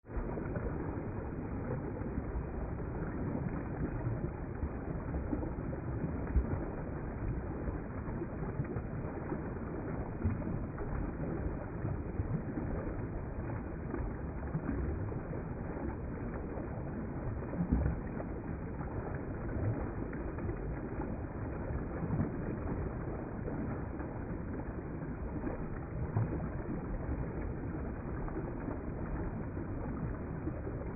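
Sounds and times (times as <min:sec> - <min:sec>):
river water flowing: 0:00.1 - 0:30.9.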